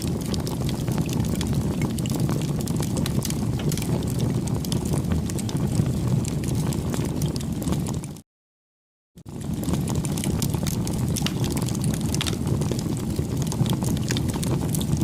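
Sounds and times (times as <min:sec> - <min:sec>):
wood fire crackling: 0:00.0 - 0:08.2, 0:09.2 - 0:15.0.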